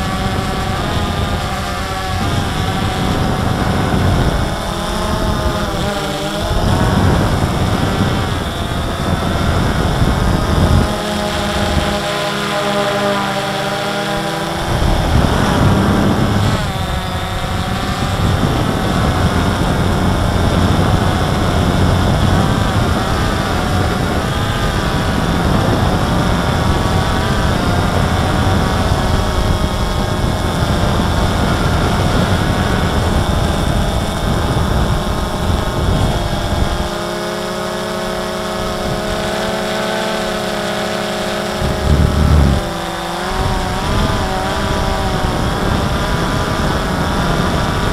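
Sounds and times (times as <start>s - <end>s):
drone propellers whining: 0.0s - 47.9s
wind buffeting microphone: 0.0s - 47.9s.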